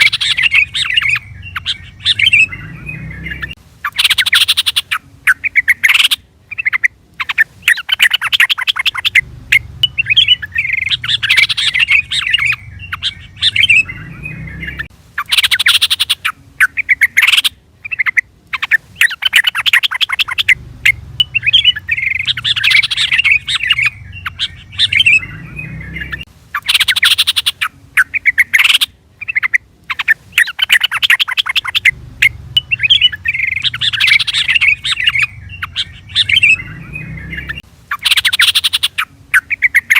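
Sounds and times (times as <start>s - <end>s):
bird chattering and warbling: 0.0s - 39.9s.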